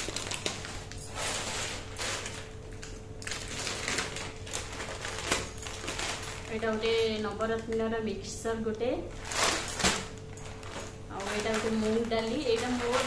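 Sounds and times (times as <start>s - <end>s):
plastic packets rustling: 0.0s - 8.0s, 9.1s - 13.0s.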